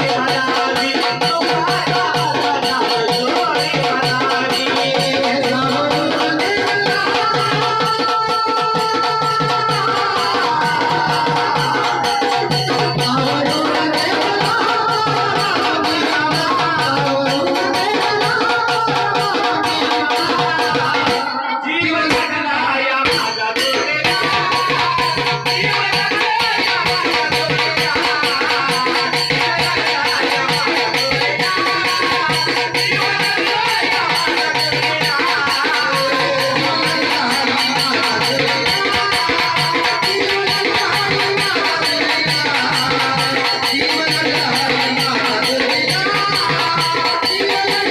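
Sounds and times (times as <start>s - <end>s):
folk song with drum beat: 0.0s - 47.9s
rattling percussion: 0.0s - 47.9s.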